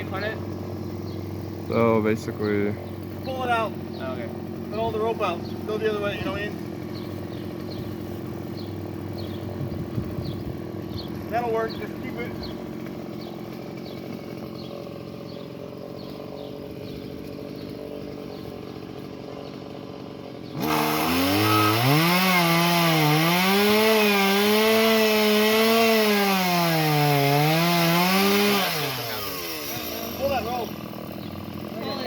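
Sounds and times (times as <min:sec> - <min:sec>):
chainsaw cutting wood: 0:00.0 - 0:32.0.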